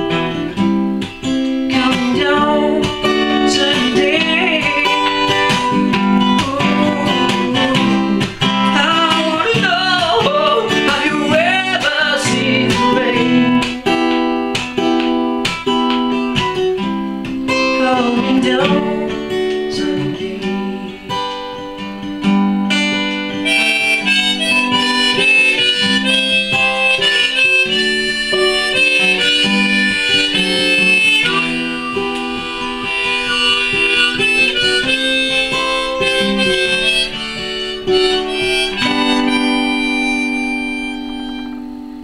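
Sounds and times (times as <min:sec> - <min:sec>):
harmonica: 0:00.0 - 0:22.0, 0:22.7 - 0:42.0
strummed acoustic guitar: 0:00.0 - 0:42.0.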